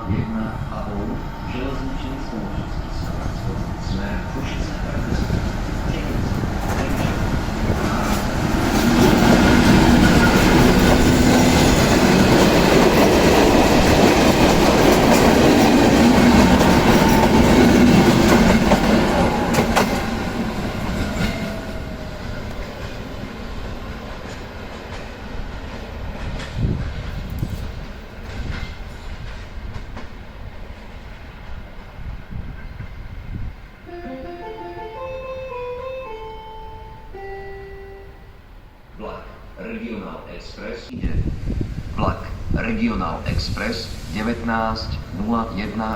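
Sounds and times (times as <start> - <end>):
electric train passing: 0.0 - 45.9.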